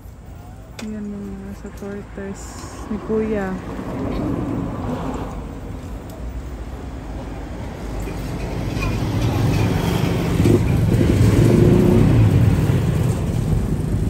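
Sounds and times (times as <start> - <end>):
vehicle engine passing: 1.4 - 14.0.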